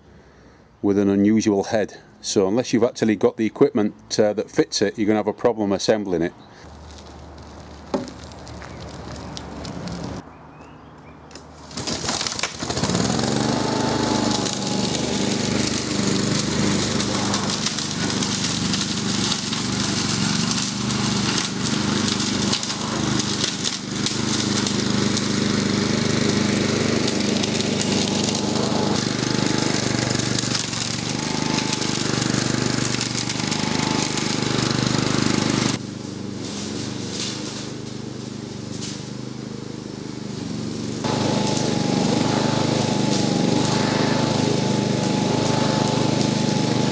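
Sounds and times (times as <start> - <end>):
lawn mower engine running: 6.6 - 10.2, 11.3 - 46.9.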